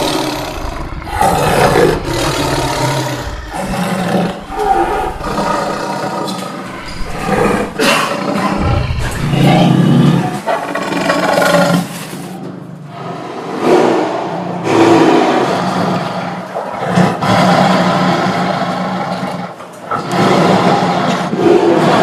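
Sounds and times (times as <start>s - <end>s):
big cat roaring: 0.0s - 12.3s, 12.9s - 22.0s.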